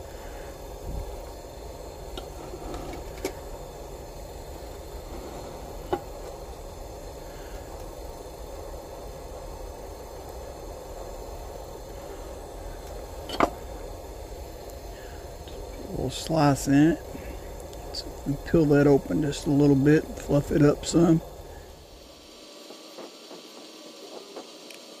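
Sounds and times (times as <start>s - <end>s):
steady background hum and hiss: 0.0s - 25.0s.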